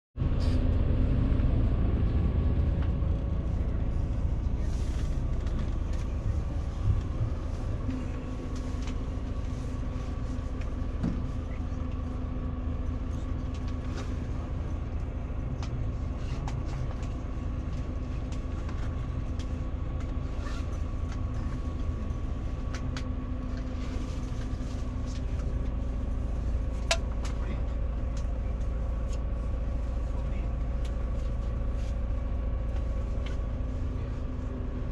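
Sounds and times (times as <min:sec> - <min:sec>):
bus engine rumble: 0:00.2 - 0:34.9.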